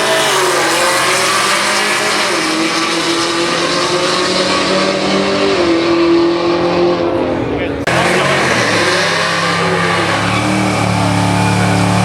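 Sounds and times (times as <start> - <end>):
drag car engines racing: 0.0 - 12.0.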